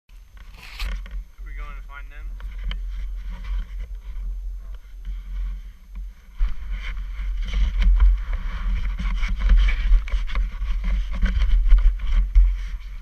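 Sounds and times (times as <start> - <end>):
wind rumbling on microphone: 0.1 - 13.0.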